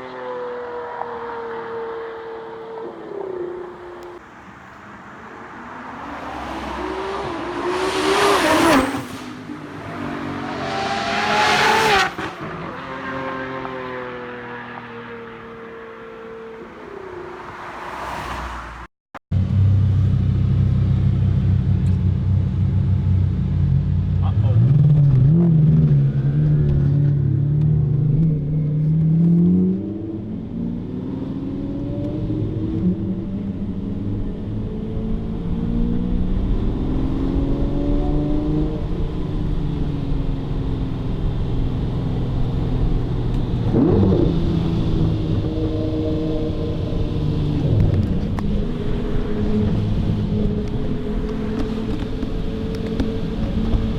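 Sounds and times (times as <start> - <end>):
supercar engine at full throttle: 0.0 - 53.9.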